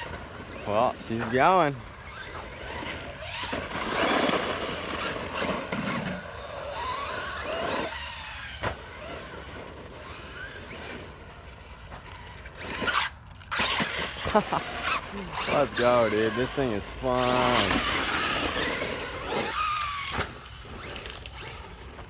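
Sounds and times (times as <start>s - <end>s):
electric motor whining: 0.0s - 22.0s
tyres running on dirt: 0.0s - 22.0s.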